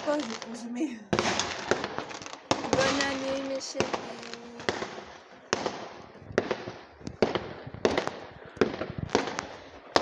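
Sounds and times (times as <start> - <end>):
fireworks bangs echoing: 0.0 - 10.0.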